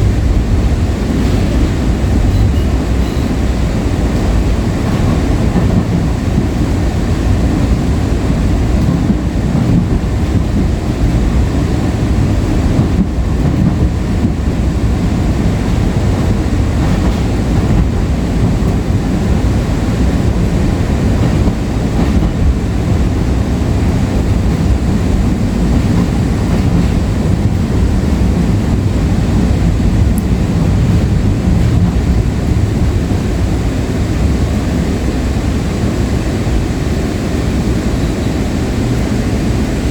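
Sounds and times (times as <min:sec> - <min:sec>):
light rail car rumbling on track: 0:00.0 - 0:39.9.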